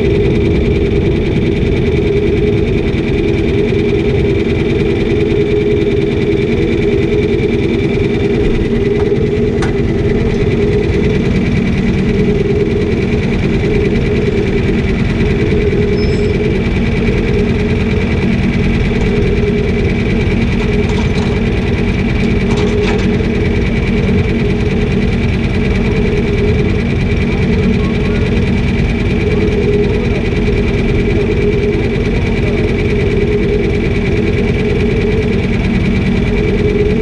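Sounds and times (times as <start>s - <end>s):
heavy farm machine engine: 0.0s - 37.0s.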